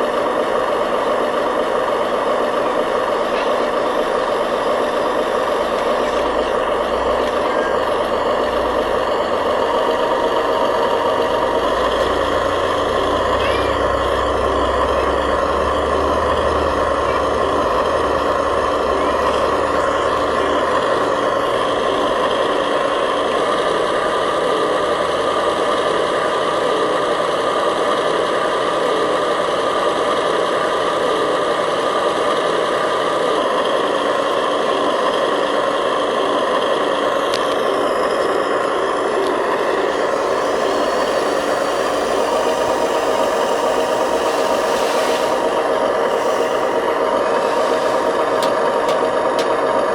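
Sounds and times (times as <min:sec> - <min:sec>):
motor and gear whine: 0:00.0 - 0:49.9.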